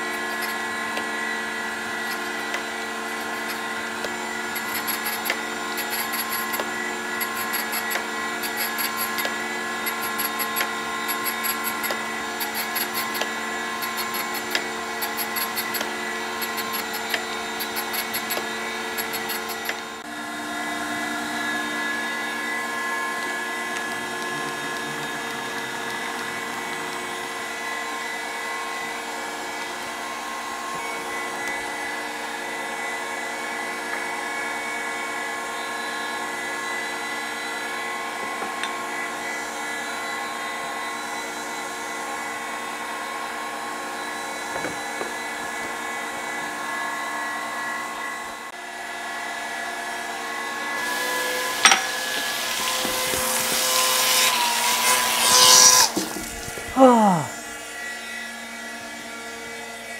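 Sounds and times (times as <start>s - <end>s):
grinder motor whine: 0.0s - 59.9s.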